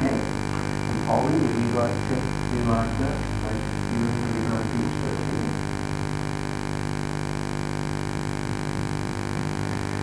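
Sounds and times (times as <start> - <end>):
hum of held tones: 0.0 - 10.0.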